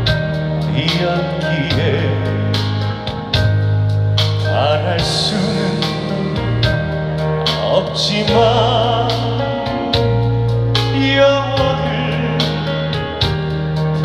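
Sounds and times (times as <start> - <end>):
band accompaniment: 0.0 - 14.0
man singing a ballad: 0.0 - 14.0.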